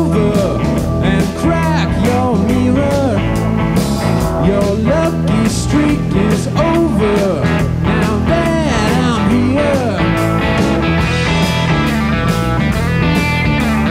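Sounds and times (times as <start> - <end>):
blues-rock band playing: 0.0 - 13.9
sliding bending lead guitar: 0.0 - 13.9.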